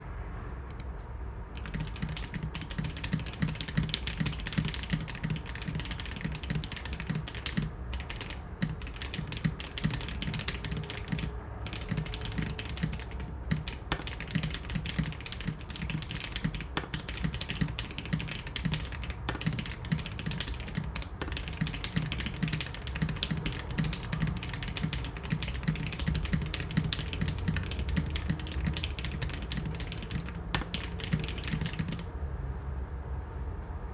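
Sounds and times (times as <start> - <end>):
mechanical keyboard typing: 1.5 - 32.1.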